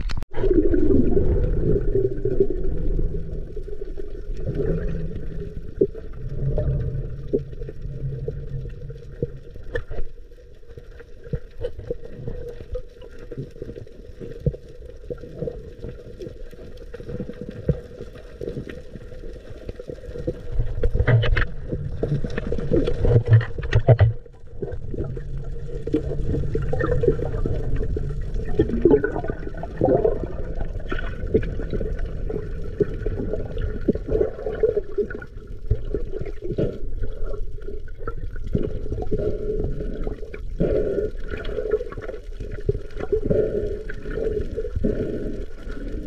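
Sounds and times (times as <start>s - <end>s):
muffled underwater sloshing: 0.0s - 46.0s
small clicks and gurgles: 0.0s - 46.0s.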